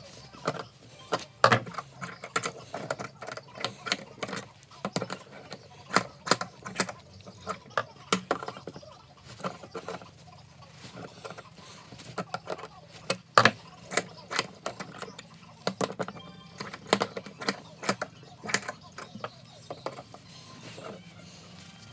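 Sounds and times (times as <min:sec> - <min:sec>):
hand tools and metal parts clicking: 0:00.0 - 0:21.9.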